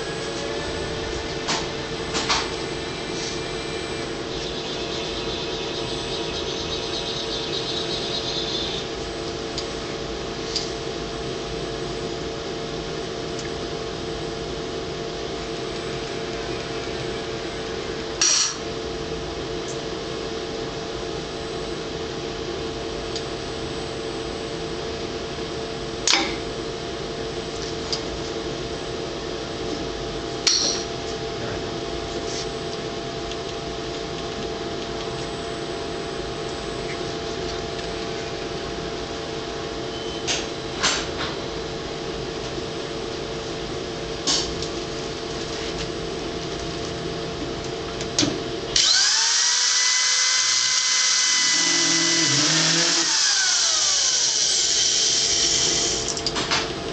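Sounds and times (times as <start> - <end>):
machine hum with fixed tones: 0.0 - 56.9.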